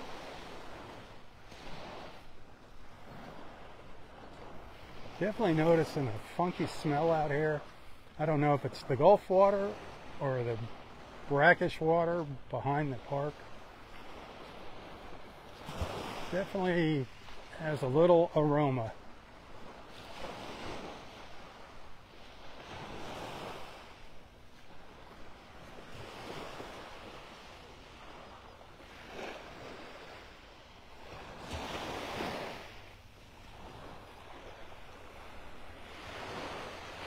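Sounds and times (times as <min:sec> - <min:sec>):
gentle waves lapping on beach: 0:00.0 - 0:37.0.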